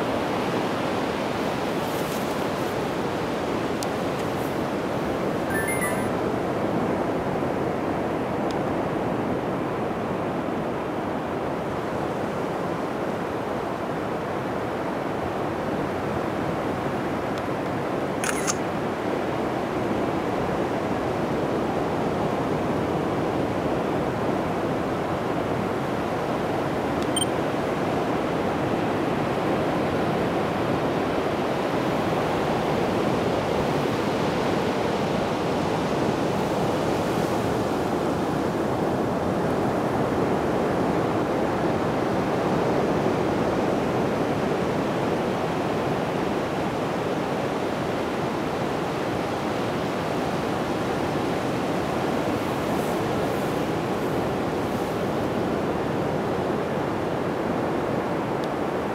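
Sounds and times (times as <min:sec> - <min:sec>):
ocean waves breaking on beach: 0:00.0 - 0:58.9.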